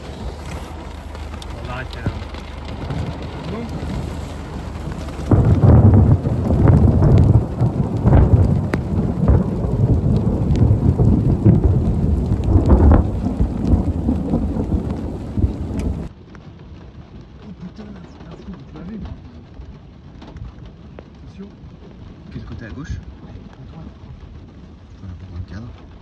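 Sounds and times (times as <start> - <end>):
heavy rain: 0.0 - 26.0
raindrops ticking close by: 0.0 - 26.0
thunder rumbling: 0.0 - 26.0.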